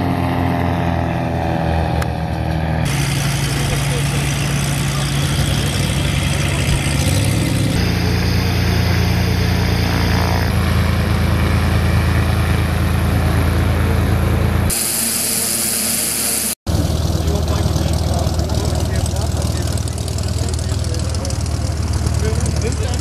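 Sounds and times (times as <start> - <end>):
light aircraft engines humming: 0.0 - 23.0.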